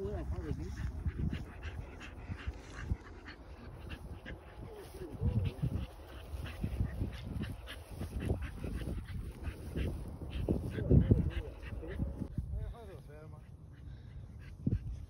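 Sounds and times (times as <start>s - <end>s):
wind rumble on microphone: 0.0s - 13.1s, 14.2s - 15.0s.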